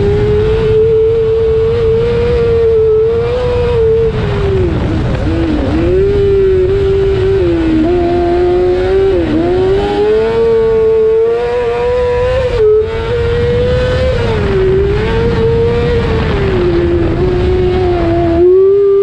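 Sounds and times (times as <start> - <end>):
chassis and track rumble: 0.0 - 19.0
kart engine revving: 0.0 - 19.0.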